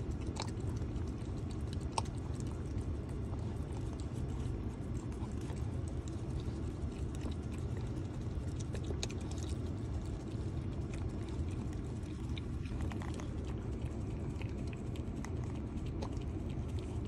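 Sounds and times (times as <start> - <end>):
puppy licking and lapping: 0.0 - 17.0.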